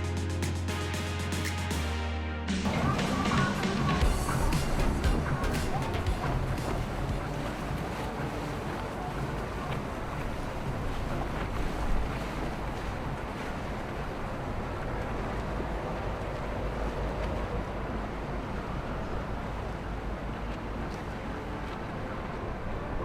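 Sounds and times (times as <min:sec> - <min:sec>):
boat engines running: 0:02.6 - 0:23.0
wash of water: 0:02.6 - 0:23.0.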